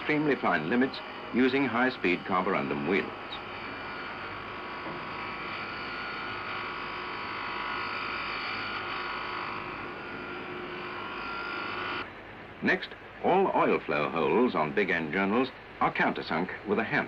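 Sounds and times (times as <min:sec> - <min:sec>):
grinding machine whining hum: 0:00.0 - 0:17.0.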